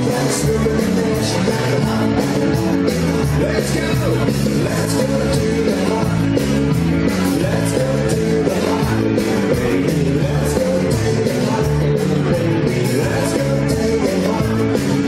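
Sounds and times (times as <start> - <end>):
rock and roll dance music with singing: 0.0 - 15.0.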